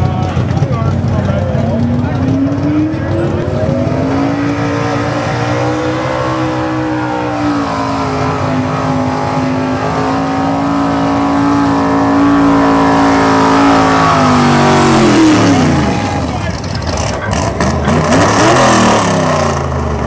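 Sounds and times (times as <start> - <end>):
truck engine revving under load: 0.0 - 20.0.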